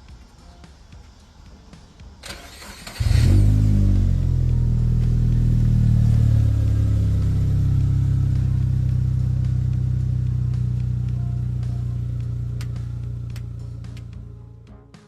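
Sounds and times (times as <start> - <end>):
car engine idling: 1.2 - 14.6.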